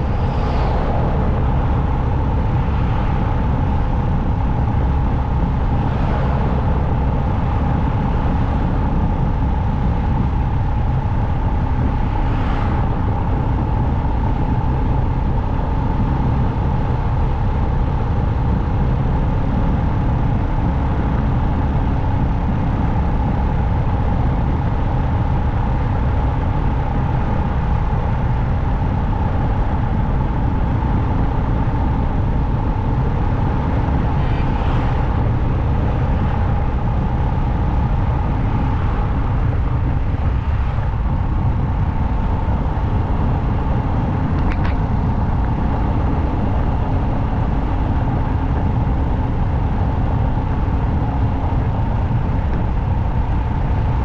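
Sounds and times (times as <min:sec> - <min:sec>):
motorcycle engine drone: 0:00.0 - 0:54.0
wind rush on microphone: 0:00.0 - 0:54.0.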